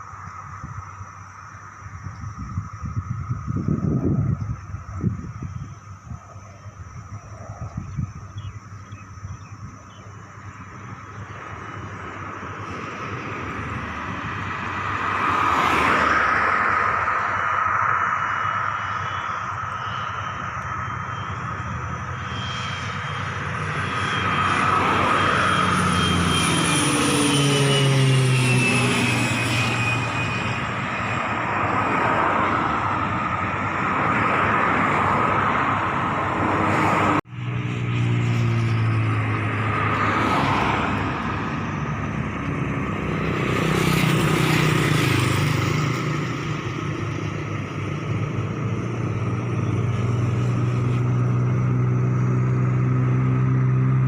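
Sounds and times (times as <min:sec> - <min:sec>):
propeller aircraft flying past: 0:00.0 - 0:54.0.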